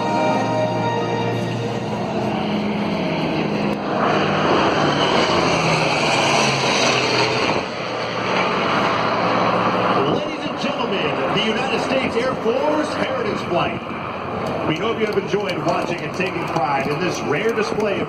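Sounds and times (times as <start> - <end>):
jet and propeller rush: 0.0 - 18.0
piston engines droning: 0.0 - 18.0.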